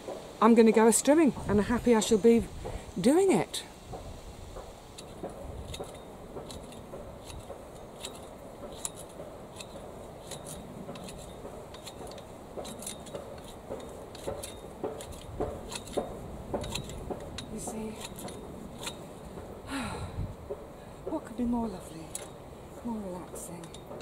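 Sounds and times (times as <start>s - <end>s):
grass shears snipping: 0.0s - 19.6s, 21.0s - 24.0s.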